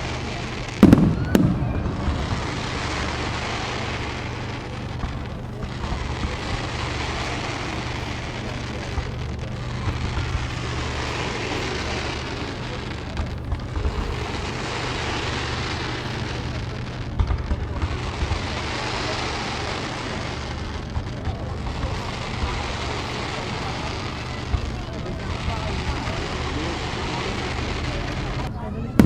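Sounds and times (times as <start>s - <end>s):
fireworks bangs: 0.0s - 29.0s
small firework pops: 0.0s - 29.0s
steady background noise: 0.0s - 29.0s.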